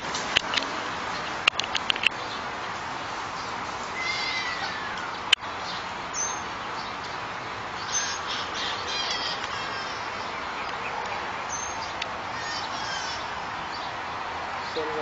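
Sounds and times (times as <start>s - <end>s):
birds chirping: 0.0s - 15.0s
steady background hiss: 0.0s - 15.0s.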